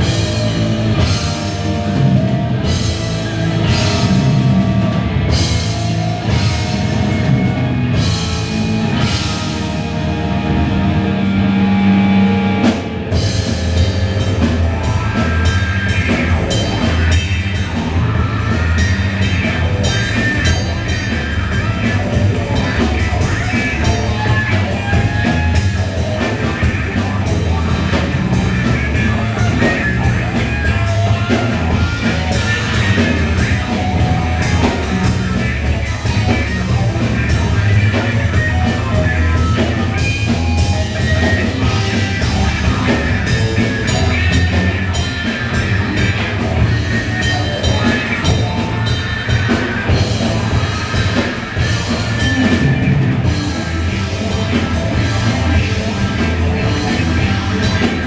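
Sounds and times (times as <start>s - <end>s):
drum kit: 0.0s - 58.0s
guitar: 0.0s - 58.0s
rock band playing: 0.0s - 58.0s.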